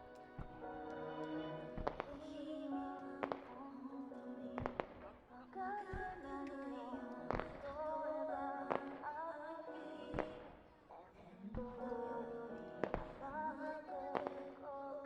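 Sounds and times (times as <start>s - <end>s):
pop song with female singer: 1.4s - 15.0s.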